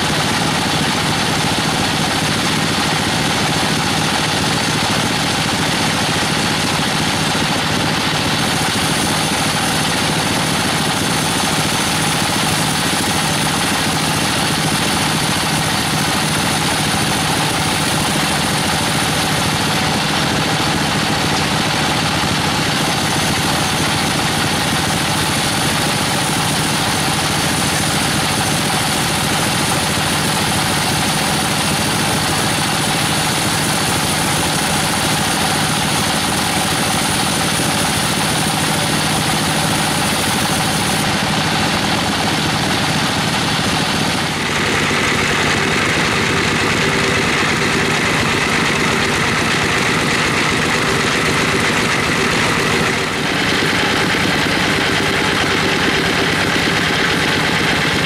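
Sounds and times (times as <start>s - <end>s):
band sawmill cutting timber: 0.0s - 58.0s.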